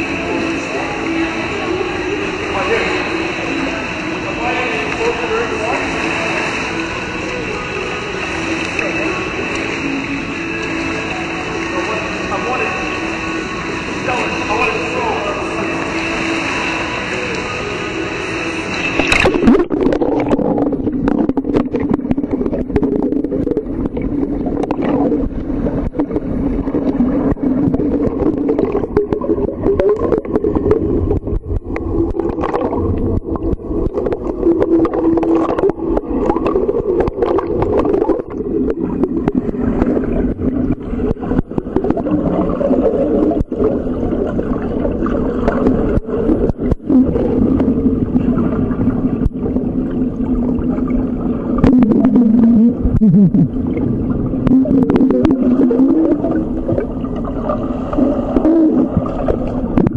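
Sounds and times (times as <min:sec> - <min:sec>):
low underwater drone: 0:00.0 - 0:59.9.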